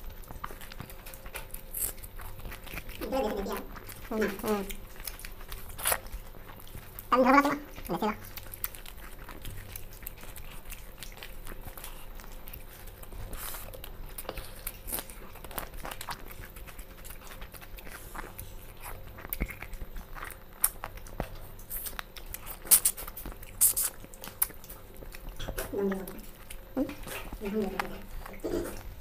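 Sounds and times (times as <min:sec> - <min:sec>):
chewing: 0:00.0 - 0:29.0.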